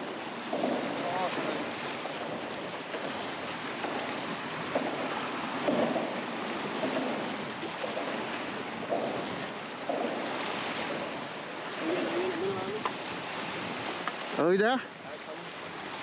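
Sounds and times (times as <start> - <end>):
waves lapping: 0.0 - 16.0.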